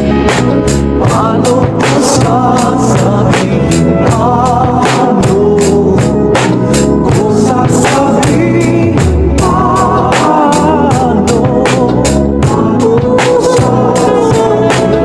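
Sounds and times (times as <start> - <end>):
drum kit playing: 0.0 - 15.0
man singing with vibrato: 0.0 - 15.0
pop ballad: 0.0 - 15.0.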